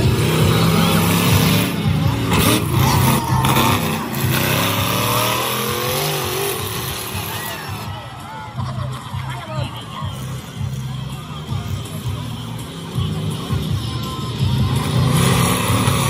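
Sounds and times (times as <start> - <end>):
monster truck engine revving: 0.0 - 9.1, 9.9 - 16.0.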